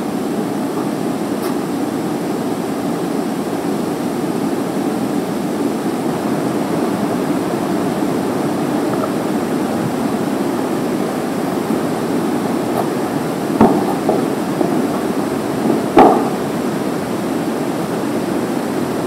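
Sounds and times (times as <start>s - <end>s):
air conditioner running: 0.0s - 19.0s.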